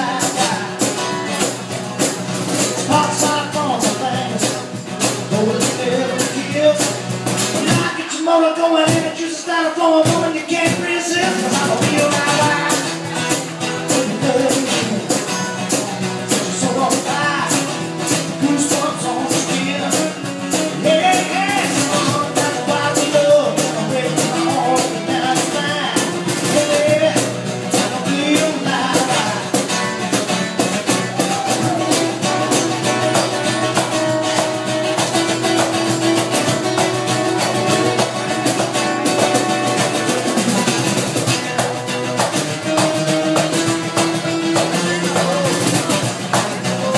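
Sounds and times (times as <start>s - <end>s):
acoustic guitar strummed: 0.0s - 46.9s
cajon hand drum beat: 0.0s - 46.9s.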